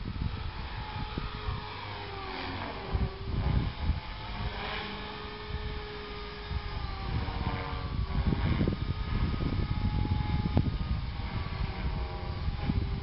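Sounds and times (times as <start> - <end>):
low rumble: 0.0 - 13.0
toy helicopter motor whining: 0.0 - 13.0.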